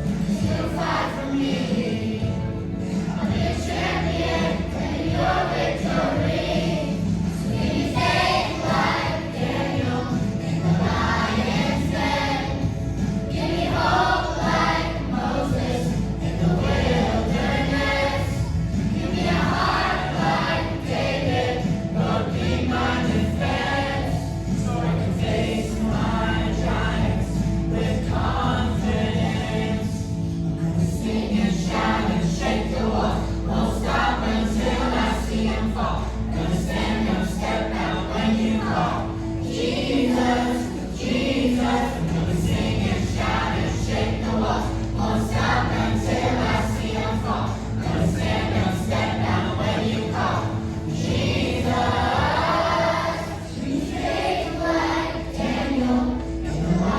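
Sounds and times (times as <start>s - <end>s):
choir singing: 0.0s - 56.9s.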